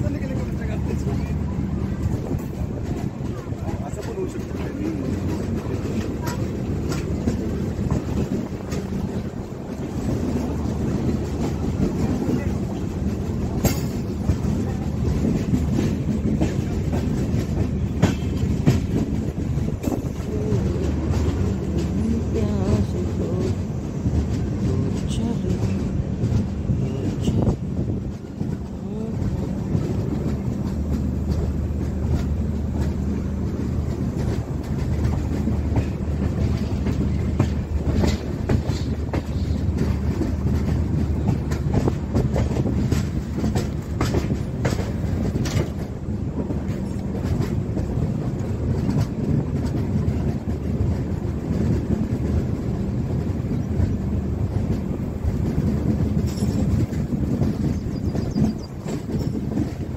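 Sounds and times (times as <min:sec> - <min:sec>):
train rumble on track: 0:00.0 - 0:59.9
wheels clacking over rail joints: 0:00.0 - 0:59.9.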